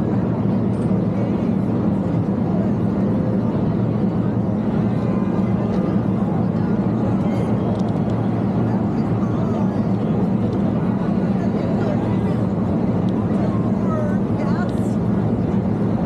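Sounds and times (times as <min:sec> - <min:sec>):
faint mixed voices: 0:00.4 - 0:16.0.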